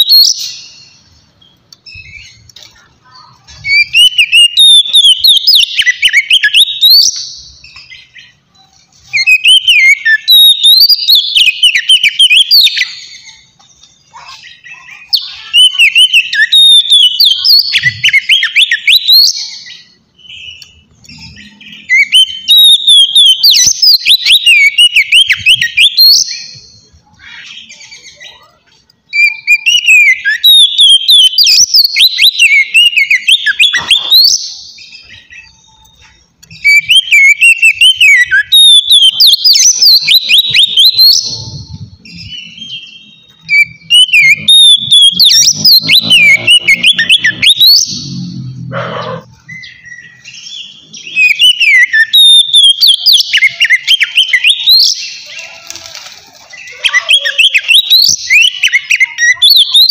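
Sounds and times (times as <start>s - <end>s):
bird whistled warbling song: 0.0s - 2.6s, 3.2s - 55.6s, 56.4s - 59.9s.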